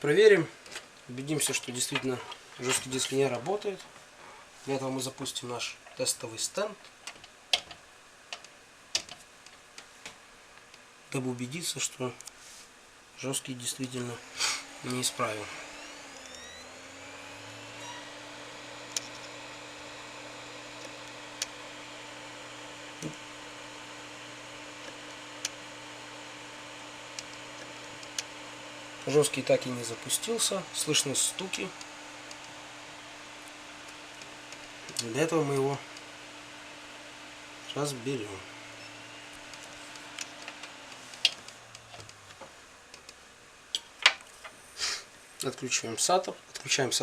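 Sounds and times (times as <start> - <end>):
steady background hum: 0.0 - 47.0.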